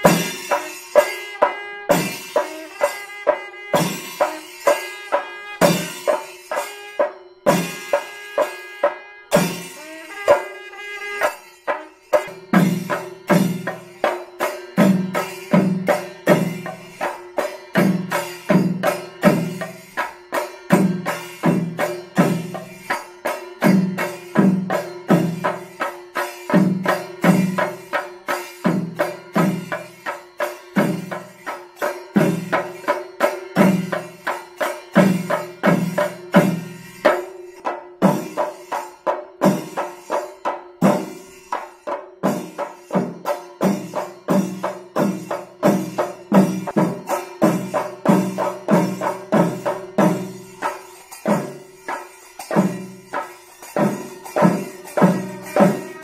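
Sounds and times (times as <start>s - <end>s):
drums played with sticks: 0.0s - 56.0s.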